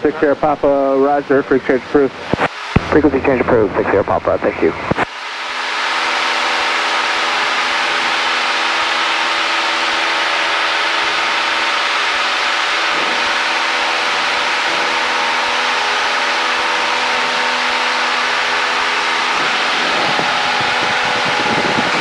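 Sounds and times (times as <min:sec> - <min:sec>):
airplane engine and propeller drone: 0:00.0 - 0:22.0.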